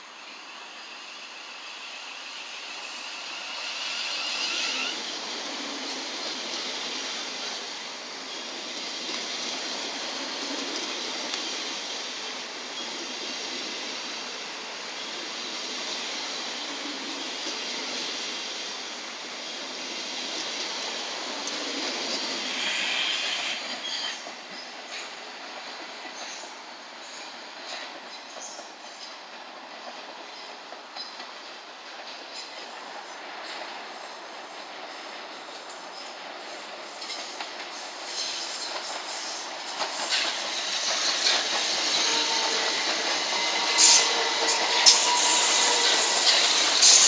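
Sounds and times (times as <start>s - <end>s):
train wheels rushing on rail: 0.0s - 47.0s.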